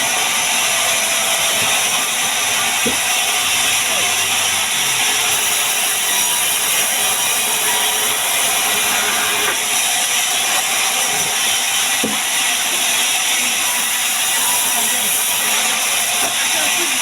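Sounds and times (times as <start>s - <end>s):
power tool working wood: 0.0s - 17.0s.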